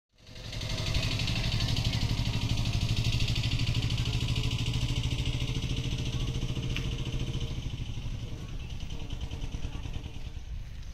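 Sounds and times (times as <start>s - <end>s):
engine idling: 0.2s - 10.9s.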